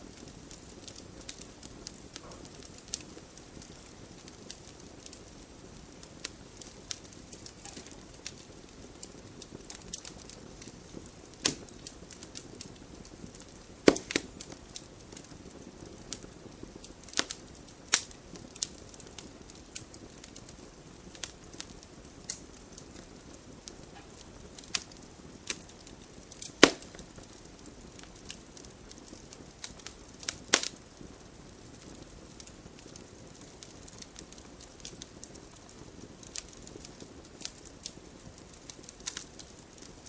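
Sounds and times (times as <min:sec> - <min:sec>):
burning wood crackling and popping: 0:00.0 - 0:40.0
fire hissing: 0:00.0 - 0:40.0.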